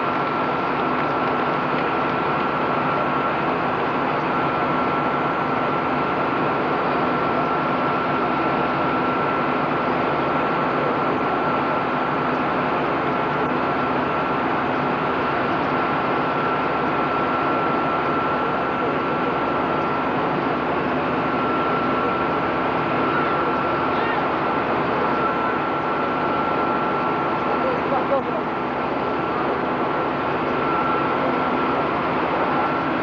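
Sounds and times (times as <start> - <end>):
jet engine running: 0.0 - 33.0.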